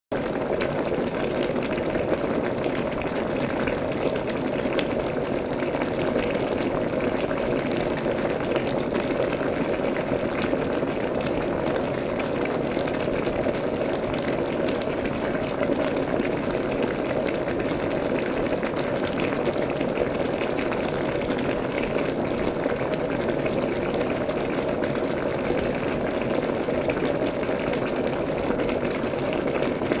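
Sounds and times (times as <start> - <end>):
water boiling and bubbling: 0.1 - 30.0.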